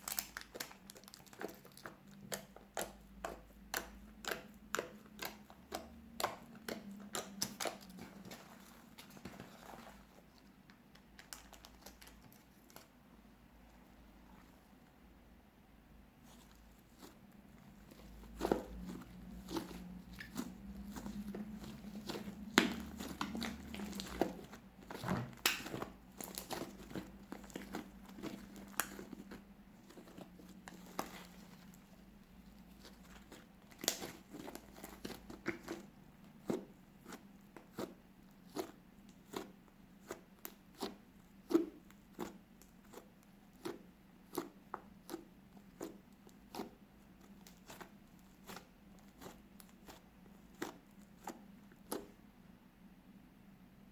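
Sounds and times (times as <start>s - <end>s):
slime crackling and popping: 0.0s - 10.1s, 17.8s - 52.2s.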